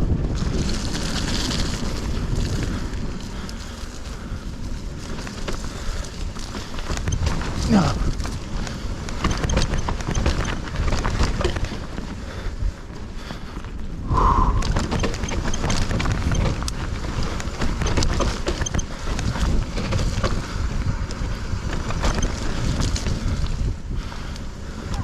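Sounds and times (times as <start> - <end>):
bike clicks and rattles: 0.0 - 14.0, 14.6 - 25.0
tyres rumbling on rough ground: 0.0 - 25.0
wind buffeting microphone: 0.0 - 25.0.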